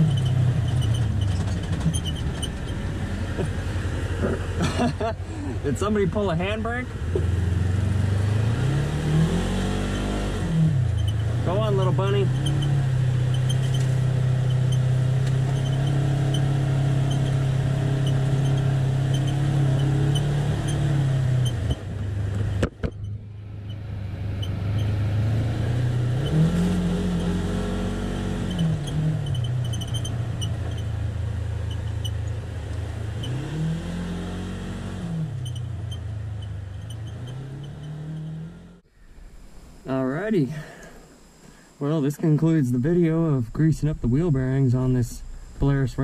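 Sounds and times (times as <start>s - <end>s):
utility vehicle engine running: 0.0s - 41.4s.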